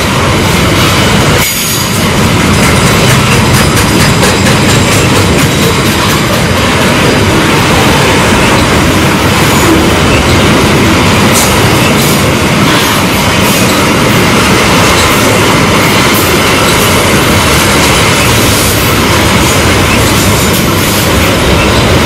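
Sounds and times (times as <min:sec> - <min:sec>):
freight train rumbling past: 0:00.0 - 0:22.0
wheels clacking over rail joints: 0:00.0 - 0:22.0.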